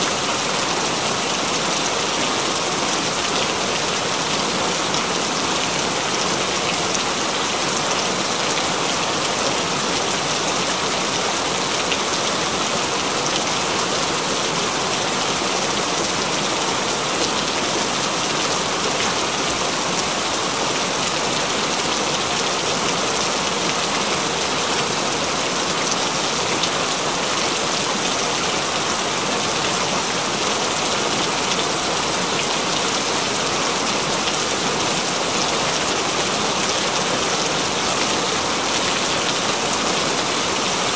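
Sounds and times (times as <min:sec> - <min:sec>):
rain on hard surfaces: 0:00.0 - 0:40.9.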